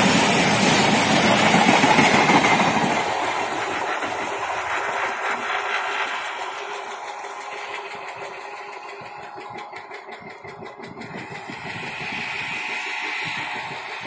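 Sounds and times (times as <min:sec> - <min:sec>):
diesel engine: 0:00.0 - 0:14.0
train wheel noise: 0:00.0 - 0:14.0.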